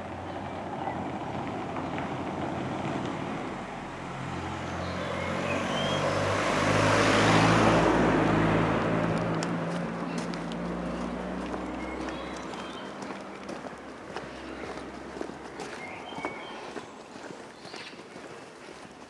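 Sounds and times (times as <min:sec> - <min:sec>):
motor vehicle passing by: 0:00.0 - 0:19.0.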